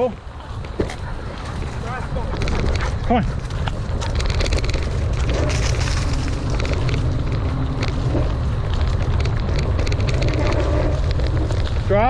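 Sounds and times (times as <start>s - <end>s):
bike rattling: 0.0s - 12.0s
wind rumble on microphone: 0.0s - 12.0s
tyres crunching over leaves: 0.3s - 12.0s.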